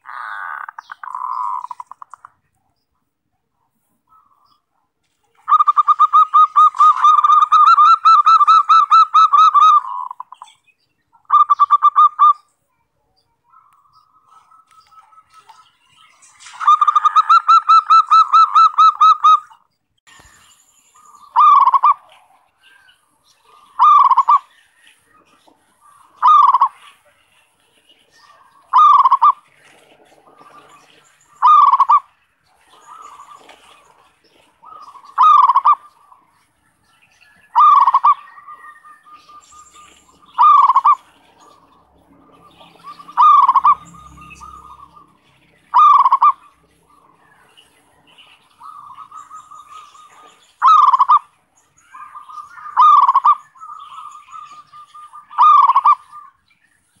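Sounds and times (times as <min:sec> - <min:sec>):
doves cooing: 0:00.0 - 0:02.5, 0:04.1 - 0:10.4, 0:13.5 - 0:19.6, 0:21.0 - 0:56.4.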